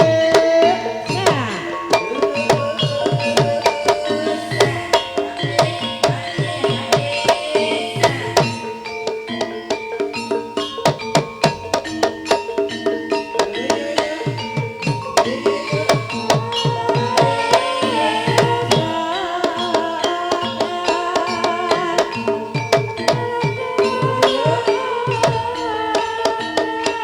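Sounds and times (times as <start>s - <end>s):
hand drum strokes: 0.0s - 27.0s
ringing pitched percussion melody: 0.0s - 27.0s.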